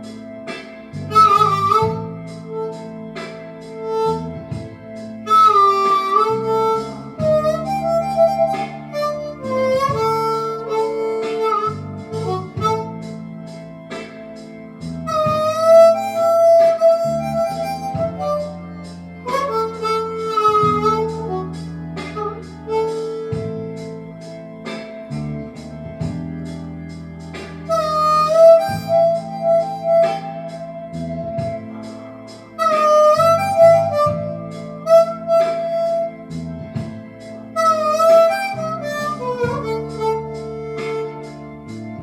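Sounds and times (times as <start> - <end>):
blues harmonica: 0.0 - 42.0
low backing with plucked notes: 0.0 - 42.0.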